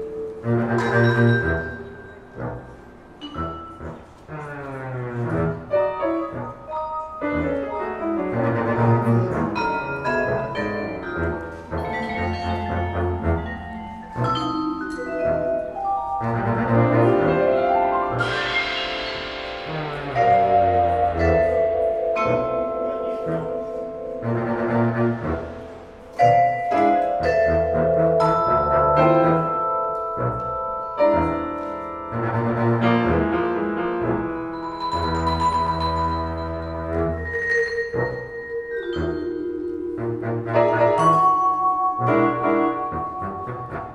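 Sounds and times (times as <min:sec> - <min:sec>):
vibraphone notes: 0:00.0 - 0:04.5, 0:05.8 - 0:32.7, 0:33.5 - 0:43.9
piano: 0:00.0 - 0:43.9
plucked double bass: 0:00.0 - 0:43.9.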